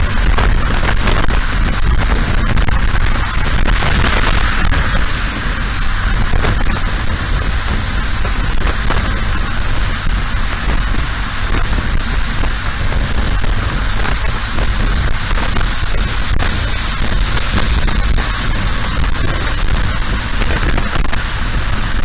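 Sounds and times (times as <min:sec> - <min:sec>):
motorcycle low rumble: 0:00.0 - 0:22.0
wind and rain on microphone: 0:00.0 - 0:22.0.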